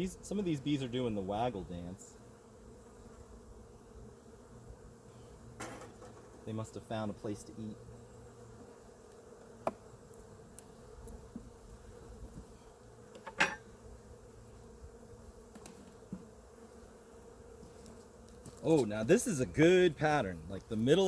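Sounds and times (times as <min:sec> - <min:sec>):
bees humming: 0:00.0 - 0:21.0.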